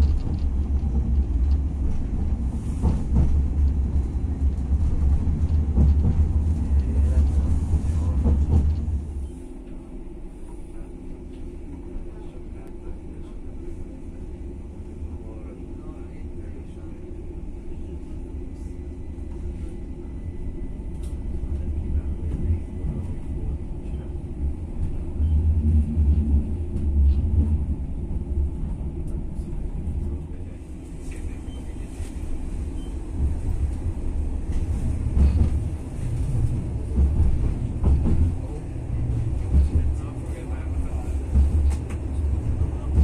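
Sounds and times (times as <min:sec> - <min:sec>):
tram running rumble: 0:00.0 - 0:43.0.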